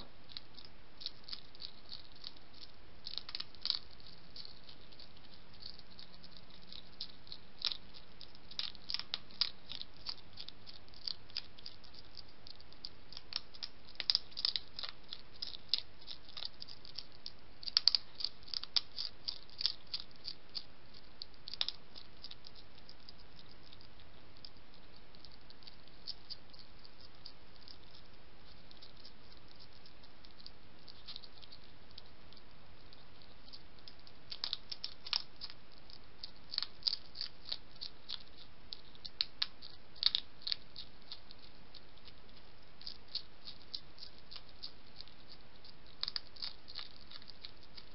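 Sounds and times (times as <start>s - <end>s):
background hiss: 0.0s - 47.9s
hedgehog crunching biscuits: 0.0s - 47.9s.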